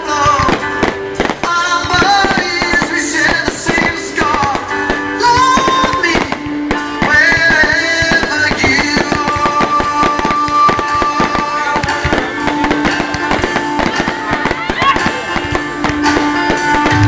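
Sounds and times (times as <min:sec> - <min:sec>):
fireworks banging and crackling: 0:00.0 - 0:17.0
music with long held notes: 0:00.0 - 0:17.0.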